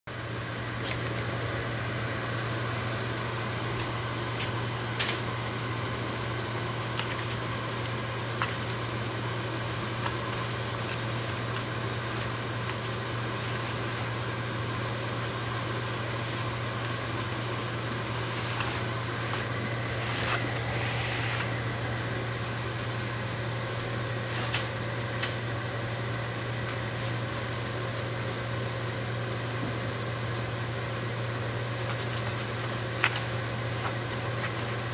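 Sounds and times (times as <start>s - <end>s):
low mechanical hum: 0.1s - 34.9s.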